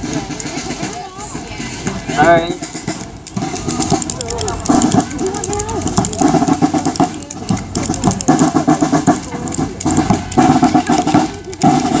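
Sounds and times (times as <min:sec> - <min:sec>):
marching band drums: 0:00.0 - 0:12.0
snare drum strokes: 0:00.0 - 0:12.0.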